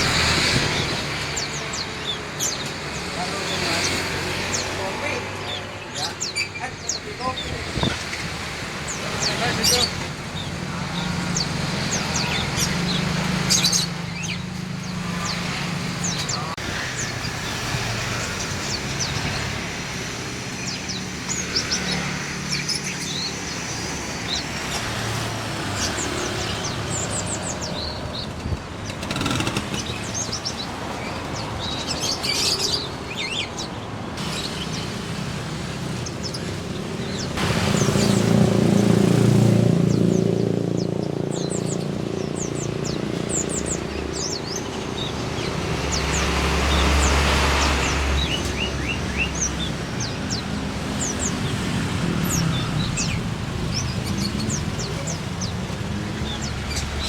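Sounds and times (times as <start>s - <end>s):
caged songbirds chirping: 0.0s - 57.0s
road traffic rumble: 0.0s - 57.0s.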